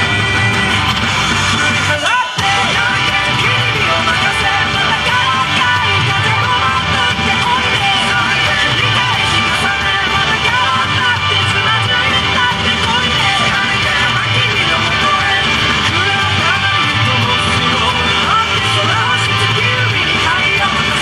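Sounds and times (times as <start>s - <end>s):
electric guitar: 0.0s - 21.0s
loud rock dance music: 0.0s - 21.0s.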